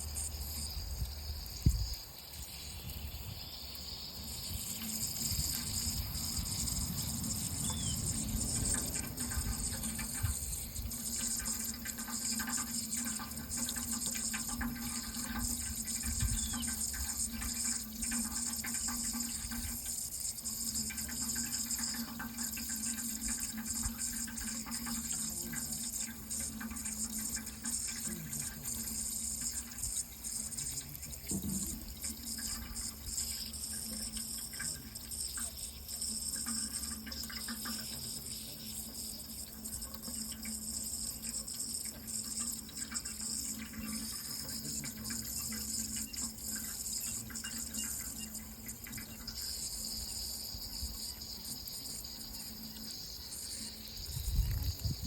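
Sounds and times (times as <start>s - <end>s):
water running in a stream: 0.0s - 55.0s.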